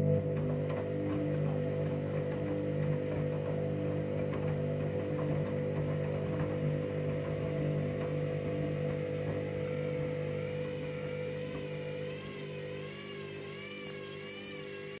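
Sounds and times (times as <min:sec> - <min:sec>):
washing machine drum turning laundry: 0:00.0 - 0:14.1
motor whine wavering in pitch: 0:00.0 - 0:15.0.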